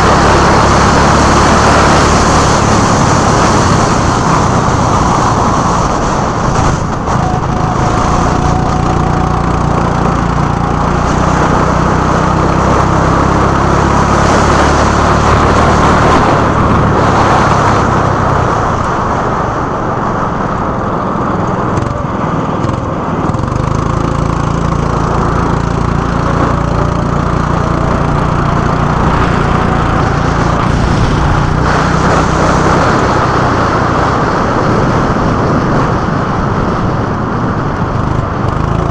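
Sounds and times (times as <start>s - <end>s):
go-kart engine buzzing: 0.0s - 38.9s
rush of noise: 0.0s - 38.9s.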